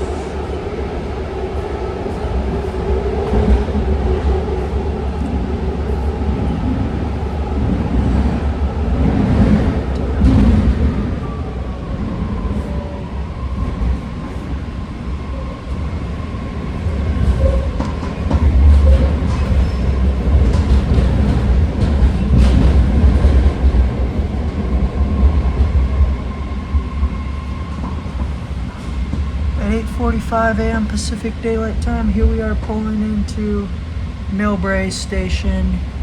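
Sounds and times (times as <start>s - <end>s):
train rumbling on track: 0.0s - 36.0s.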